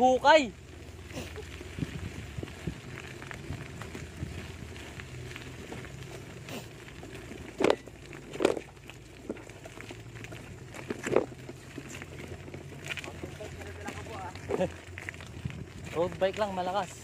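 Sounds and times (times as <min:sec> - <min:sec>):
bicycle tyres rolling over gravel: 0:00.0 - 0:17.0.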